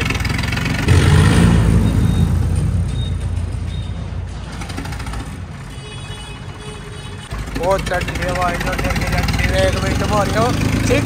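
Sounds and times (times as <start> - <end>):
tractor diesel engine revving: 0.0 - 5.7, 7.2 - 11.0.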